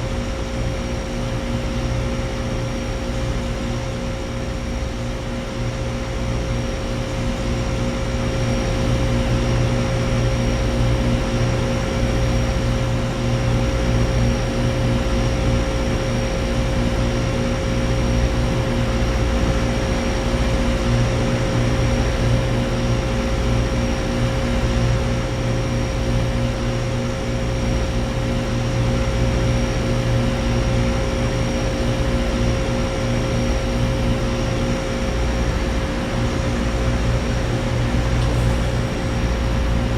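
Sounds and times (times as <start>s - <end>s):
compressor hum: 0.0s - 39.9s
condenser fans rushing: 0.0s - 39.9s.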